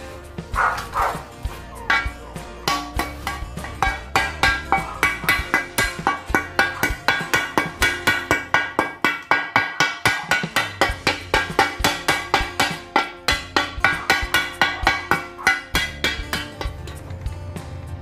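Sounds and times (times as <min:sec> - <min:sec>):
hammer striking metal blade: 0:01.9 - 0:17.1.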